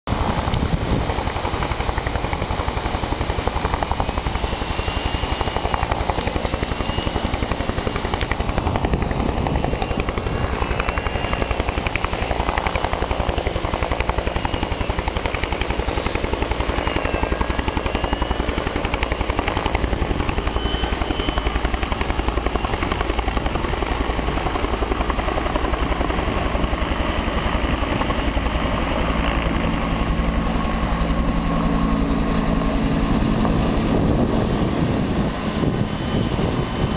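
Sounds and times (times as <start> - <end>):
helicopter rotor and engine: 0.0 - 36.9.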